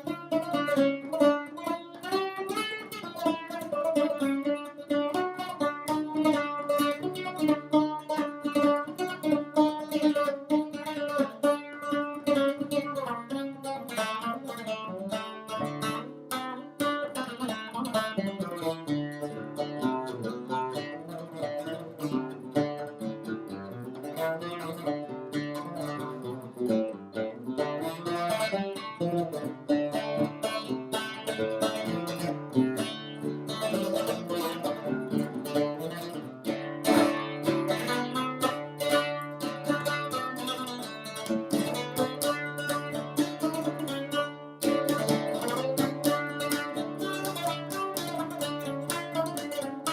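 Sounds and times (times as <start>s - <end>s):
plucked lute solo: 0.0s - 49.9s.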